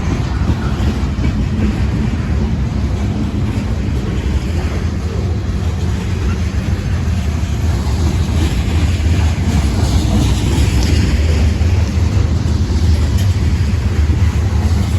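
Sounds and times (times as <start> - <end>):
freight train rolling past: 0.0 - 14.9
wind buffeting the microphone: 0.0 - 14.9.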